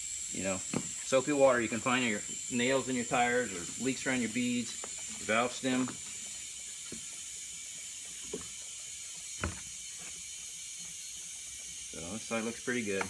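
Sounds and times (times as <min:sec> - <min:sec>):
compressed air hissing: 0:00.0 - 0:13.0.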